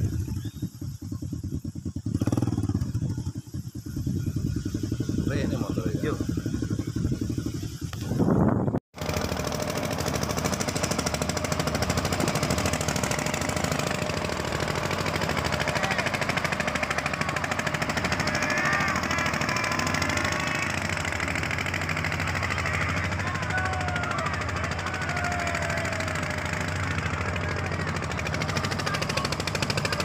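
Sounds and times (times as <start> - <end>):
boat engine knocking: 0.0 - 8.0, 9.0 - 30.0.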